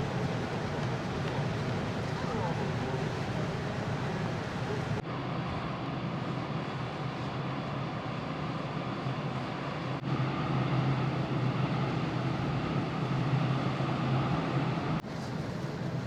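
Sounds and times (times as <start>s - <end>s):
ferry engines humming: 0.0s - 16.0s
wind and sea noise: 0.0s - 16.0s.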